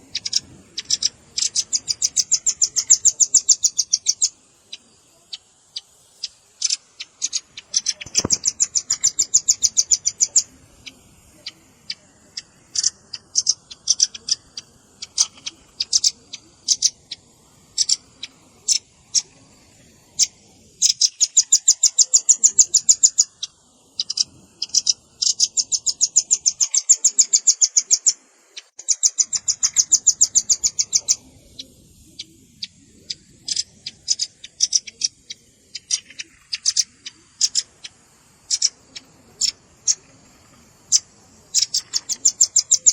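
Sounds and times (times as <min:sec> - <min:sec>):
bird calling in high chips and trills: 0:00.0 - 0:42.9.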